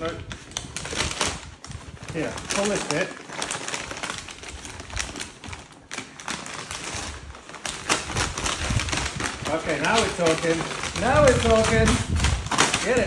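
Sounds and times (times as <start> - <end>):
paper bag crackling and tearing: 0.0 - 13.0.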